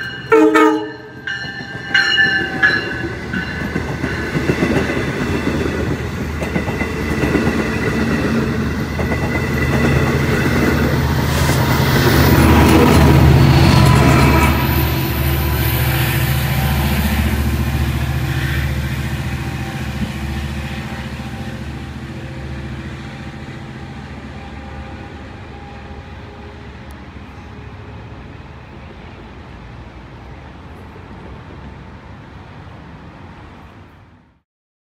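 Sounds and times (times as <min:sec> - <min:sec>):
train wheel noise: 0:00.0 - 0:31.7
diesel locomotive engine drone: 0:00.0 - 0:34.4.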